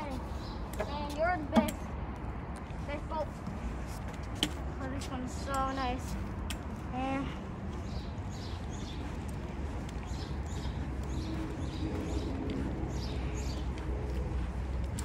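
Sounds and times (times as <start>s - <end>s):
footsteps on concrete: 0.0s - 15.0s
steady low rumble: 0.0s - 15.0s.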